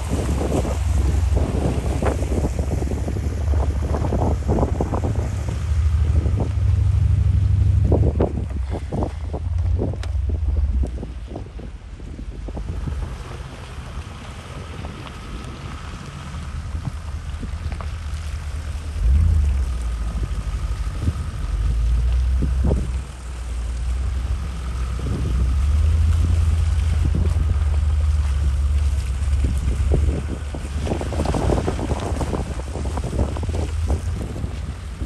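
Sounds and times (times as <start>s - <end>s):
vehicles driving on wet track: 0.0s - 35.0s
wind buffeting microphone: 0.0s - 35.0s.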